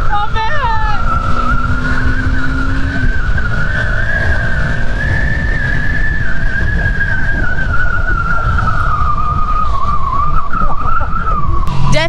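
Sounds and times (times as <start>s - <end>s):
high wind whistle: 0.0s - 12.0s
wind buffeting microphone: 0.0s - 12.0s.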